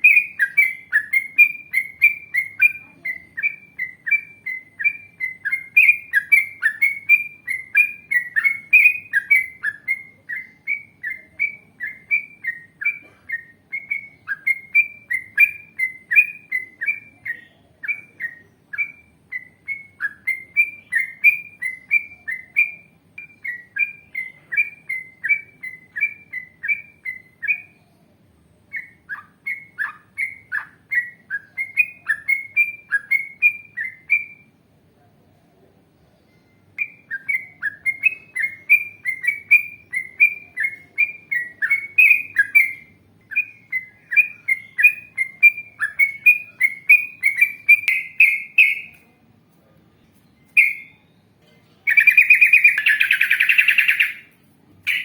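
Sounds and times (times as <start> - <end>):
bulbul singing chirping notes: 0.0 - 28.0, 28.6 - 34.6, 36.2 - 49.2, 50.2 - 55.0.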